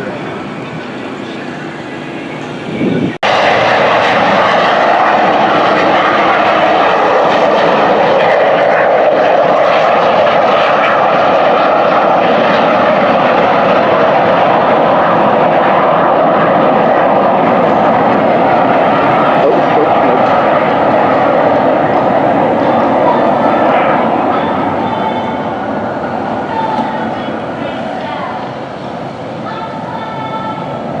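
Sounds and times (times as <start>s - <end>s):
aircraft engines running: 0.0s - 31.0s.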